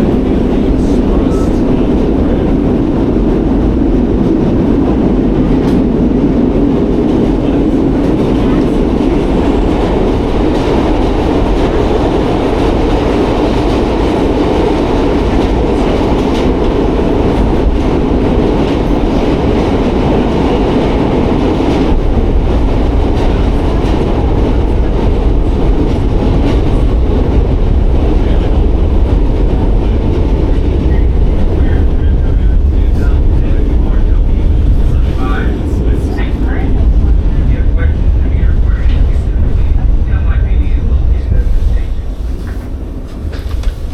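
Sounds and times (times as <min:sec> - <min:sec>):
subway train wheels rumbling: 0:00.0 - 0:43.9.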